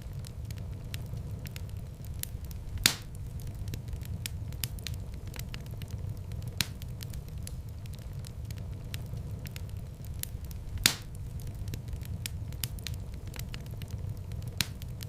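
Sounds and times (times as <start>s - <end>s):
fire burning and crackling: 0.0s - 15.0s
loud fire pops: 0.0s - 15.0s.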